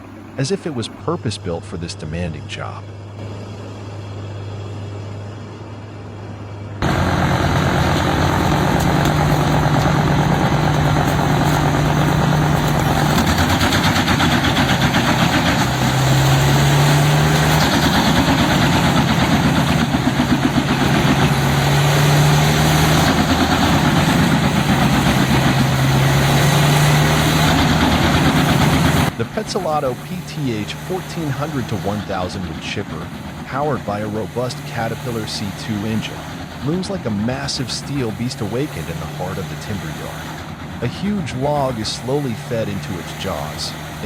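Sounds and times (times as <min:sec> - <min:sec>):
wood chipper running under load: 0:03.2 - 0:44.0.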